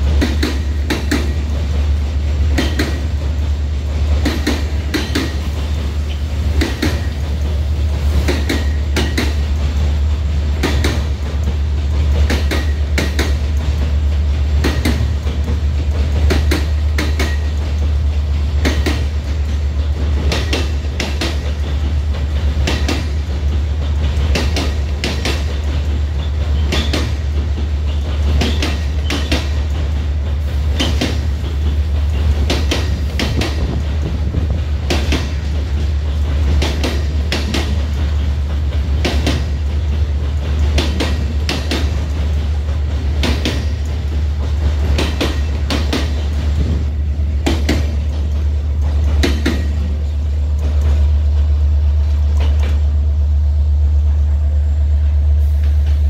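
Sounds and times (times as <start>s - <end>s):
low rumble of train: 0.0s - 56.0s
train wheels clacking over rail joints: 0.0s - 56.0s.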